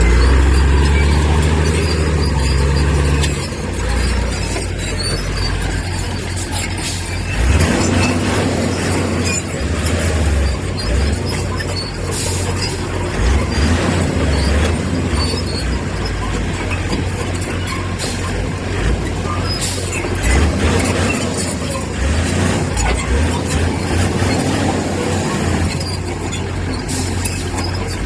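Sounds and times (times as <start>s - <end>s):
diesel earthmoving machinery rumbling: 0.0s - 28.0s.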